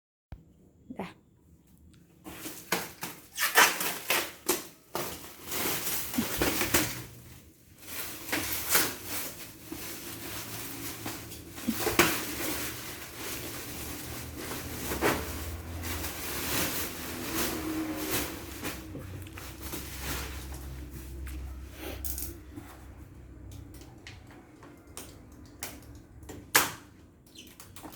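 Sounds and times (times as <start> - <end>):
rustling of handled objects: 2.2 - 26.0.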